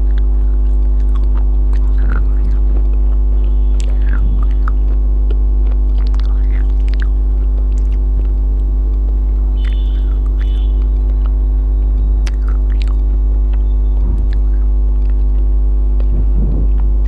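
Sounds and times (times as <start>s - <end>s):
low electrical hum: 0.0s - 17.0s
person chewing food: 0.0s - 17.0s.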